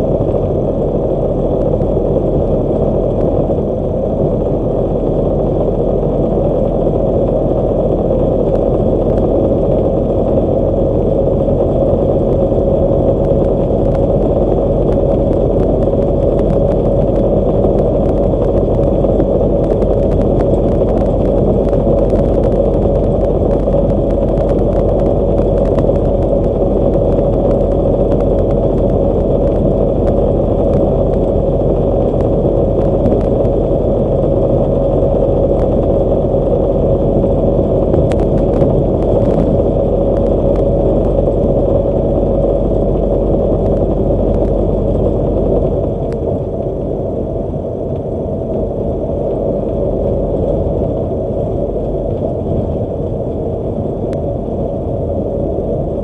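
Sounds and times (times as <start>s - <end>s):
truck engine and road noise: 0.0s - 56.0s.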